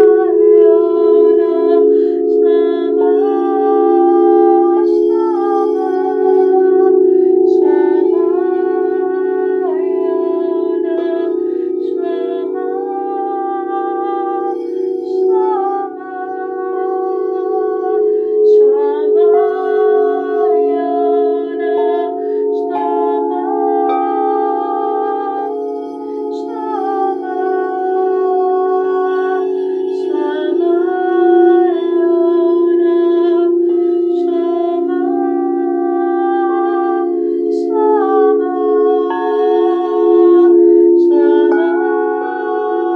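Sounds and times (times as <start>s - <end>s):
singing bowls droning: 0.0s - 42.9s
wordless singing voice: 0.0s - 42.9s.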